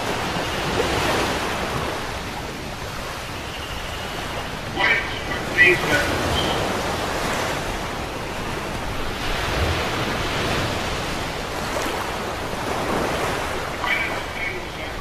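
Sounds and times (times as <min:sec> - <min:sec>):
surf washing onto beach: 0:00.0 - 0:15.0
wind rumbling on microphone: 0:00.0 - 0:15.0.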